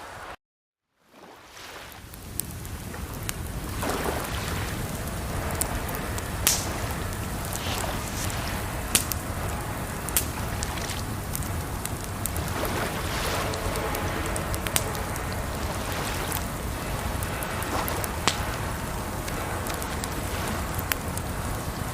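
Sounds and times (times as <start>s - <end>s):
flowing water: 1.0s - 21.9s
campfire crackling and popping: 1.9s - 21.9s.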